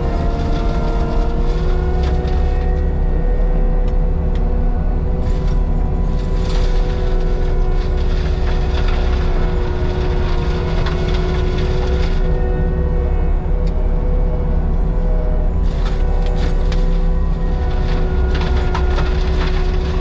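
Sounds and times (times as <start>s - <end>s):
deep diesel engine rumble: 0.0s - 20.0s.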